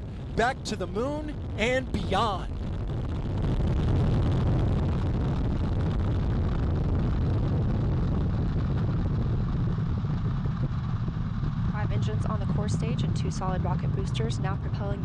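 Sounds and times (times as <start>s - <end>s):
rocket engines rumbling: 0.0s - 15.0s.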